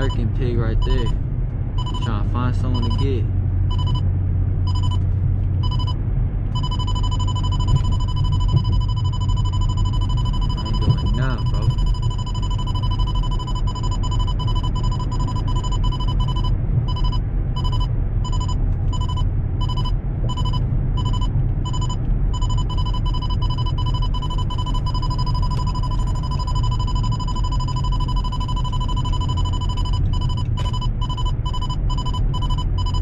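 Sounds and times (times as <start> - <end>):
radar detector alarm beeping: 0.0 - 1.2, 1.8 - 4.0, 4.7 - 5.0, 5.6 - 6.0, 6.6 - 33.0
car engine and road noise: 0.0 - 33.0.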